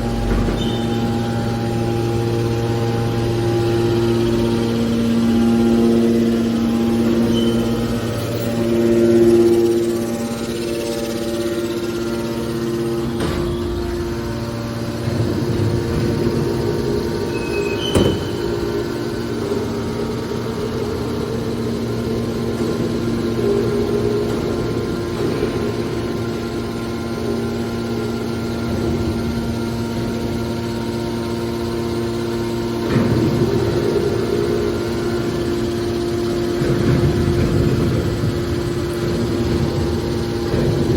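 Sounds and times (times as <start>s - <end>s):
hydraulic baler humming: 0.0s - 40.9s.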